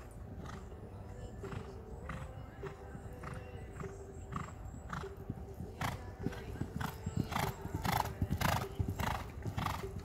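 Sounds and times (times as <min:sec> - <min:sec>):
hoofbeats on sand: 0:01.4 - 0:10.0.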